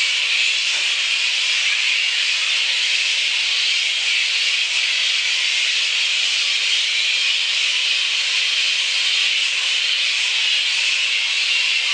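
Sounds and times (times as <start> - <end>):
bats calling in chorus: 0.0 - 11.9.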